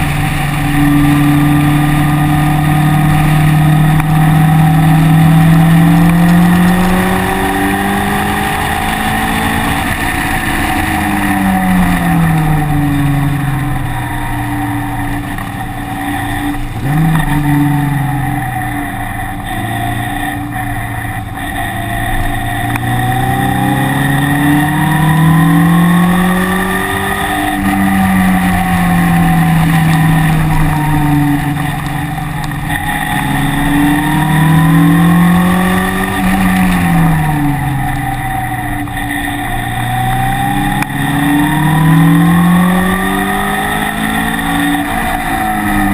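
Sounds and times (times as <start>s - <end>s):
race car engine accelerating: 0.0s - 45.9s.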